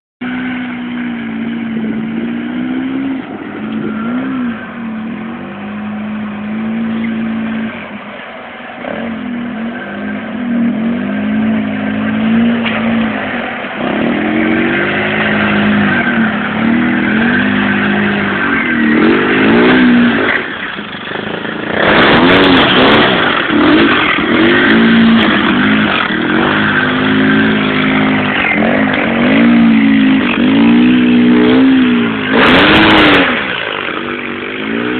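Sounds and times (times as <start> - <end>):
engine revving under load: 0.2 - 34.9
loud rushing noise: 2.2 - 34.4.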